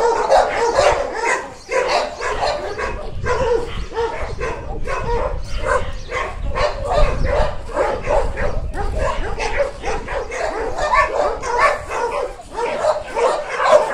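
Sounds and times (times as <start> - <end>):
dogs barking and yipping: 0.0 - 13.9.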